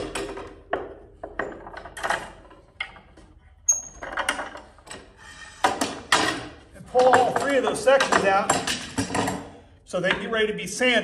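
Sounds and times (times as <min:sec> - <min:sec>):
metallic clicks and clanks: 0:00.0 - 0:10.3.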